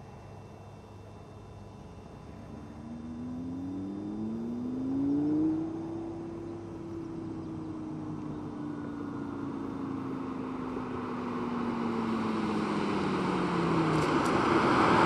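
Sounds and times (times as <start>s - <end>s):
sports car engine running: 0.0s - 15.0s.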